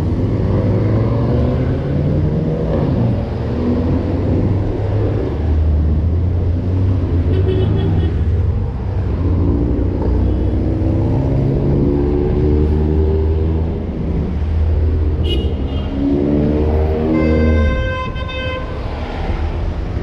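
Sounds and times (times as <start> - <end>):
vehicle engines passing: 0.0 - 20.0.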